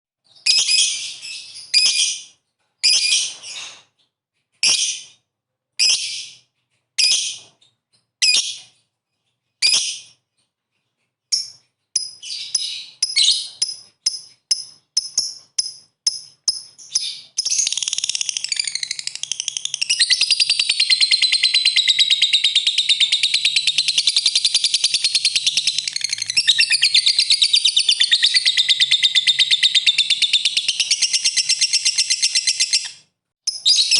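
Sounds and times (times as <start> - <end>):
lovebird chirping and chattering: 0.3 - 3.8, 5.8 - 33.9.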